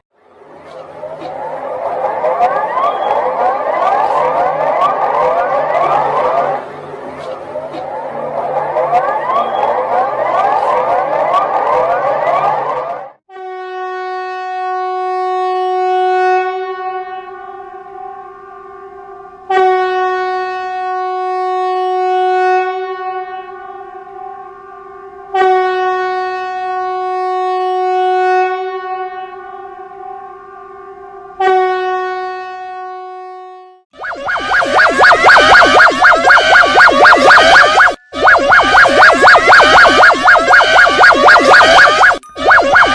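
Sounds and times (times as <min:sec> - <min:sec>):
warning horn blasts: 0:00.4 - 0:42.9.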